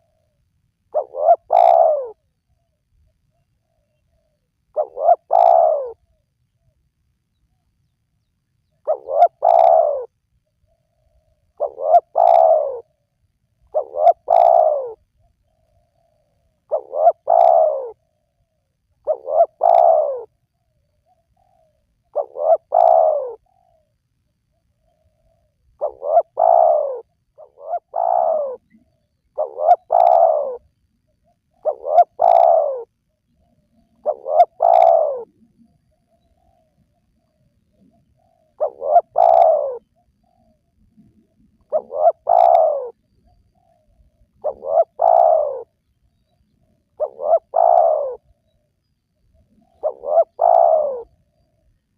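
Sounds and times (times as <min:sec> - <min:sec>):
dove cooing: 0:00.0 - 0:02.7, 0:03.4 - 0:06.7, 0:08.7 - 0:45.8, 0:46.5 - 0:48.6, 0:49.4 - 0:51.6.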